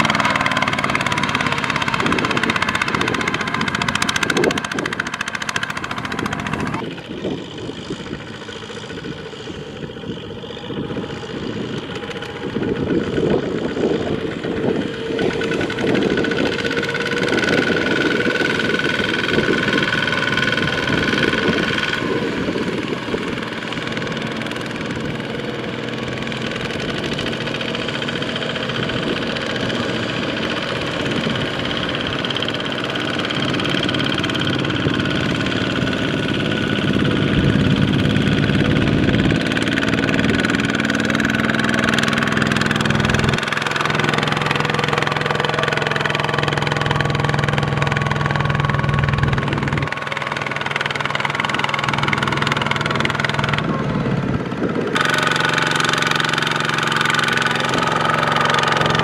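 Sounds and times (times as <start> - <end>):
tractor diesel engine: 0.0 - 59.0
walking tractor diesel engine: 0.0 - 59.0.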